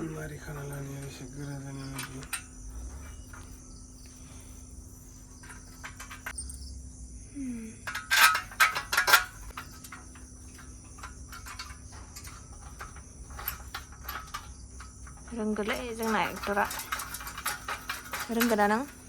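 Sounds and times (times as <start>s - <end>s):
metal parts clinking: 0.0s - 6.5s, 7.8s - 19.0s
crickets chirping: 0.0s - 19.0s.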